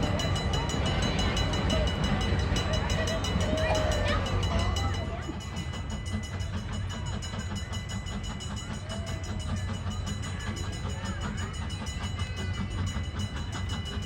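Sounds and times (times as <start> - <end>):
train rumble: 0.0 - 14.0
train wheels rattling: 0.0 - 14.0.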